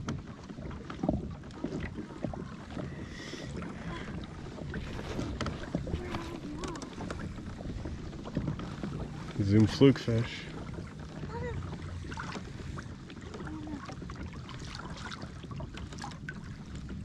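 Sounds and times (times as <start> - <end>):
water lapping against kayak hull: 0.0 - 17.0
wind buffeting microphone: 1.1 - 17.0.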